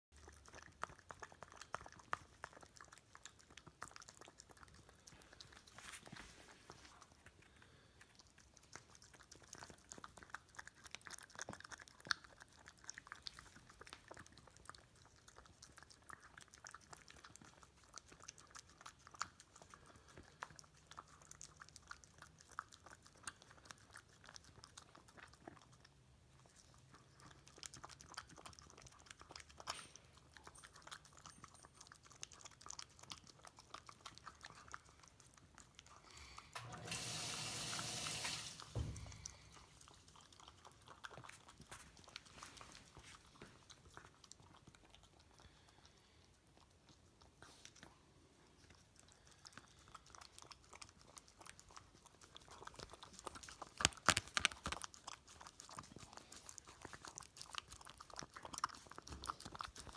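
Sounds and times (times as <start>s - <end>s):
raccoon licking and chewing: 0.1s - 59.9s.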